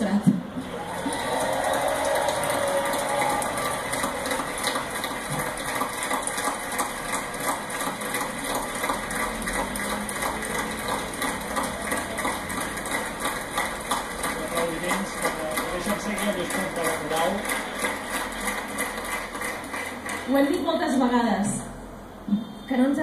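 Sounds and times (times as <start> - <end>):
crowd clapping in unison: 0.6 - 21.1.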